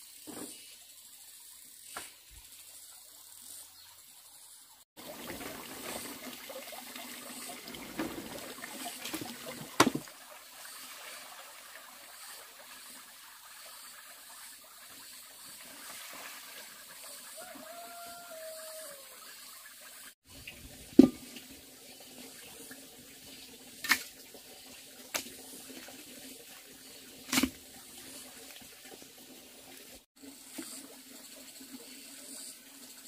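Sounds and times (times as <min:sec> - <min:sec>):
water trickling and splashing: 0:00.0 - 0:33.0.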